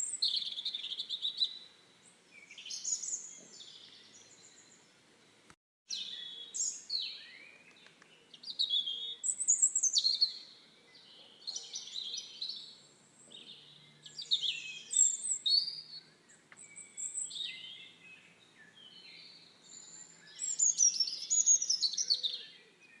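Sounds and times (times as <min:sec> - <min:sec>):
songbirds chirping and singing: 0:00.0 - 0:23.0.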